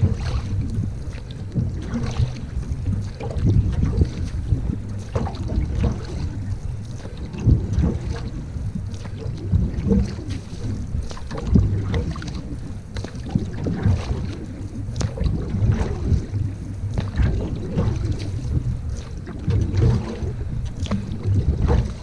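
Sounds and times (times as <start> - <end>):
water splashes: 0.0 - 22.0
wind rumbling on microphone: 0.0 - 22.0.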